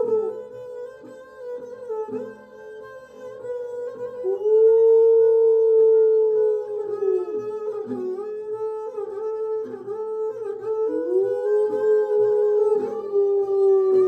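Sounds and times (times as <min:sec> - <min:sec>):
bowed string sliding melody: 0:00.0 - 0:14.0.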